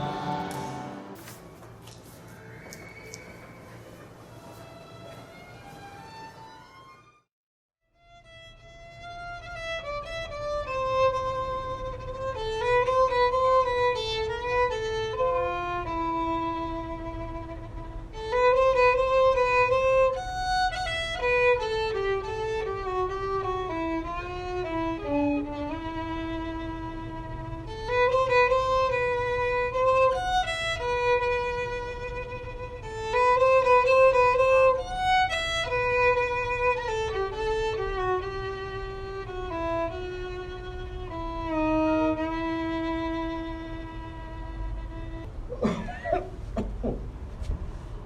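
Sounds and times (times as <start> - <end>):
solo violin melody: 0.0 - 1.2, 8.0 - 45.3.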